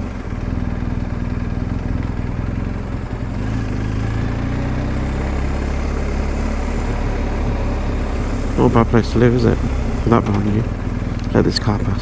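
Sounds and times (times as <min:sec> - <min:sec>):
motorcycle engine riding: 0:00.0 - 0:12.0.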